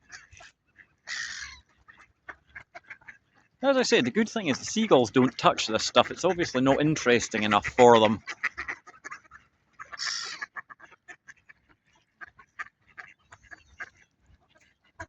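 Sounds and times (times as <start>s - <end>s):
ducks quacking: 1.1s - 15.0s.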